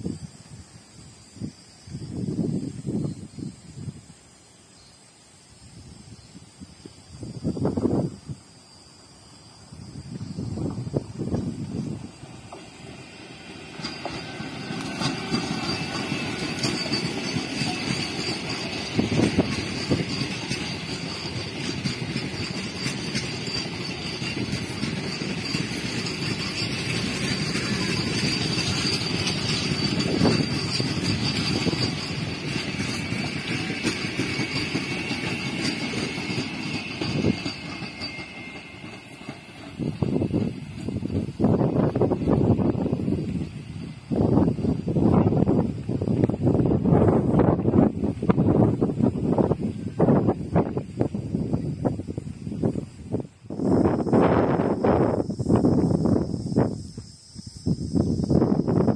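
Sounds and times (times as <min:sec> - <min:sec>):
electric train whine: 0:00.0 - 0:58.9
train wheels rumbling on track: 0:00.0 - 0:58.9.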